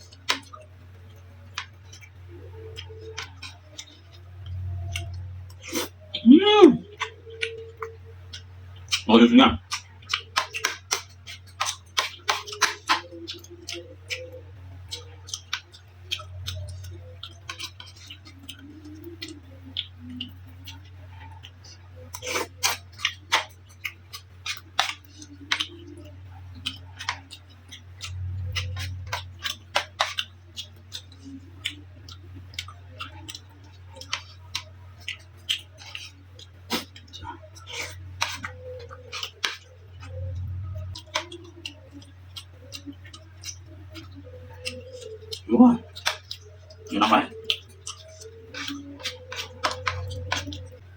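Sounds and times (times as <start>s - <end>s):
chewing mouth sounds: 0.0s - 50.9s
steady low hum: 0.0s - 50.9s.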